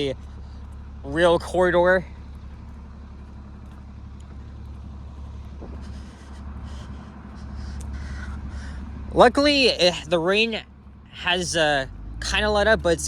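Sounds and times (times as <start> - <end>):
road traffic rumble: 0.0 - 13.0
vehicles passing: 0.0 - 13.0.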